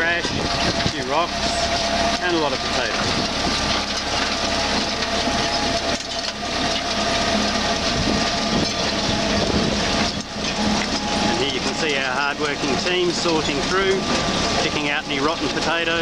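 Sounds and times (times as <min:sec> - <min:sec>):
harvester clattering and rattling: 0:00.0 - 0:16.0
machine running whine: 0:00.0 - 0:16.0.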